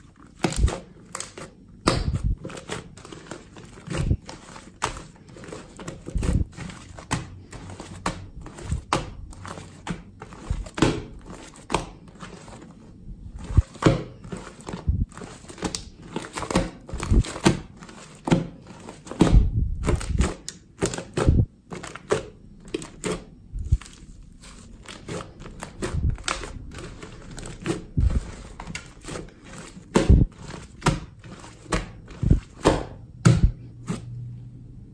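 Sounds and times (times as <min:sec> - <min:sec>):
slime squelching thuds: 0:00.3 - 0:12.7, 0:13.3 - 0:34.1.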